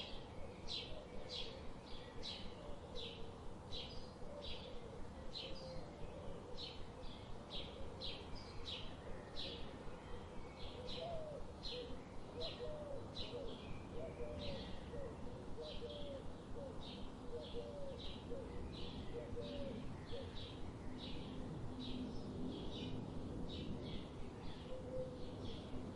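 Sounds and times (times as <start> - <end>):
faint background hiss: 0.0 - 25.9.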